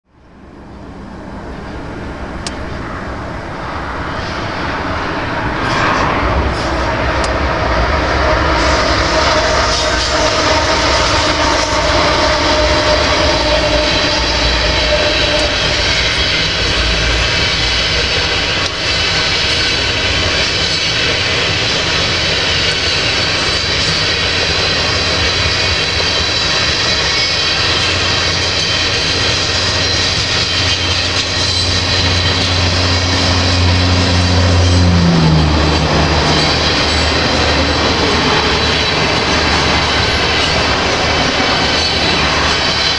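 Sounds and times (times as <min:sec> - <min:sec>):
freight train wheels on rails: 0:00.0 - 0:42.9.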